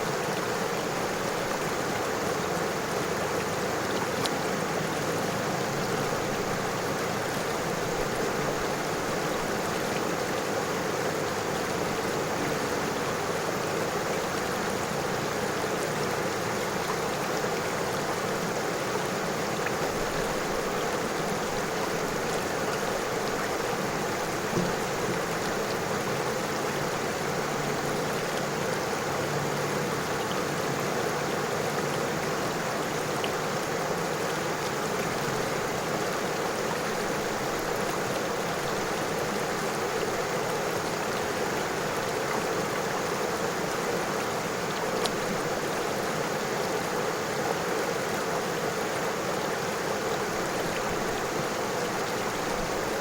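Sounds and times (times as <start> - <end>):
river water rushing over stones: 0.0 - 53.0.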